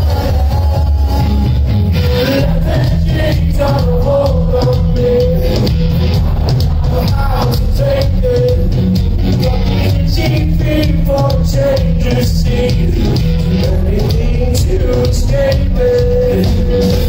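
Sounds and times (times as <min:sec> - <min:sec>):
live rock band playing: 0:00.0 - 0:17.0
pulsing bass line: 0:00.0 - 0:17.0.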